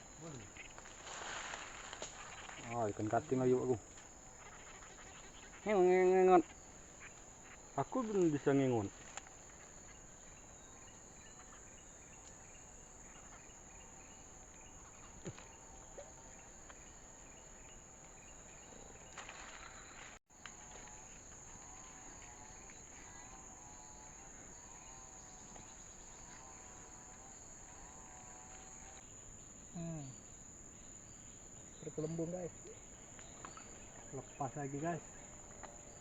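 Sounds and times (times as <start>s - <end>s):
shrill insect chorus: 0.0s - 36.0s
wavering insect calls: 0.0s - 36.0s.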